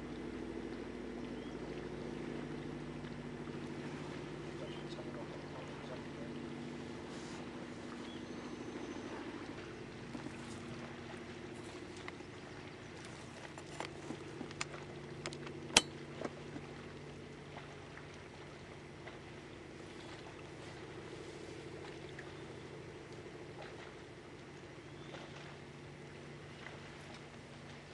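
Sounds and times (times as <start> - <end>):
boat motor idling: 0.0 - 27.9.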